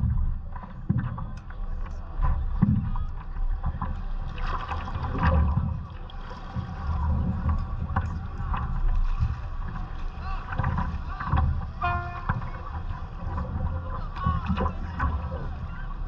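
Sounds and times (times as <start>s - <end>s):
water slapping against paddleboard: 0.0s - 16.0s.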